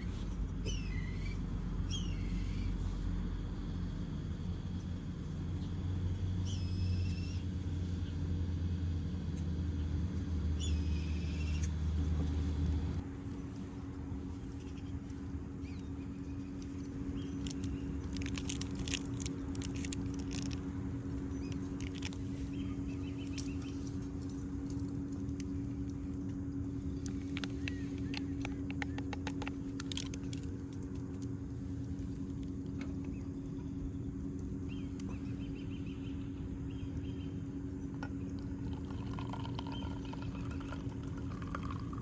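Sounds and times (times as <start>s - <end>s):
low engine-like hum: 0.0s - 42.0s.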